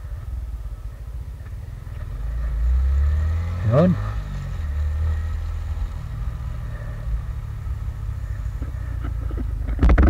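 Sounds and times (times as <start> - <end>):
low road rumble: 0.0 - 10.0
motorcycle engine running: 0.0 - 10.0.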